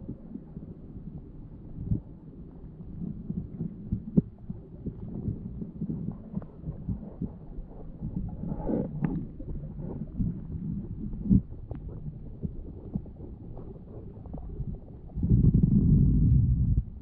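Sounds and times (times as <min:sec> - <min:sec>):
underwater river current rumble: 0:00.0 - 0:17.0.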